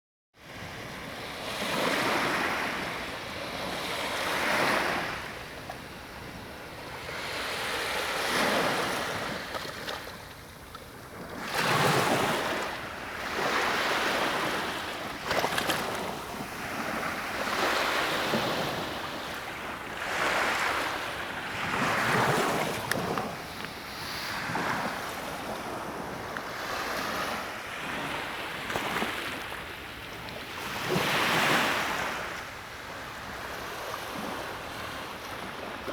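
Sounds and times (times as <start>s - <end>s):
sea waves breaking on shore: 0.5s - 35.9s.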